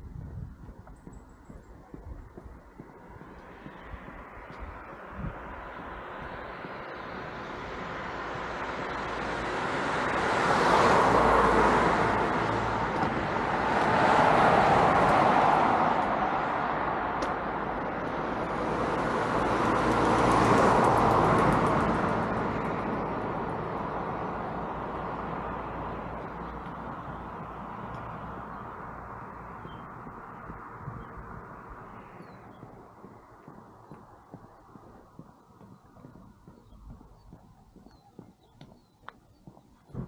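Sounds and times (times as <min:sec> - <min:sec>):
cars passing on street: 0:00.0 - 0:40.0.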